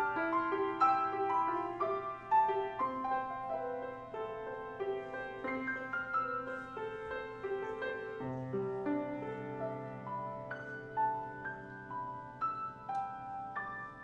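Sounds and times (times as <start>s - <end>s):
grand piano playing: 0.0s - 14.0s.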